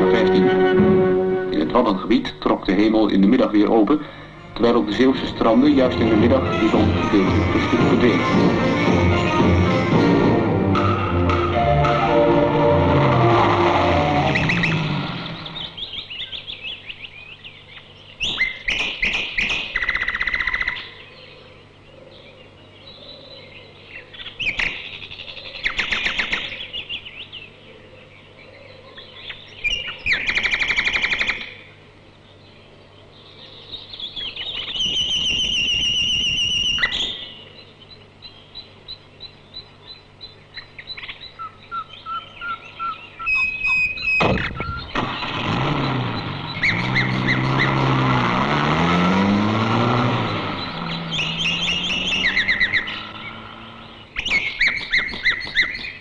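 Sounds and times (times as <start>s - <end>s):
songbird chirping and singing: 0.0s - 9.5s, 10.7s - 47.9s, 49.9s - 56.0s.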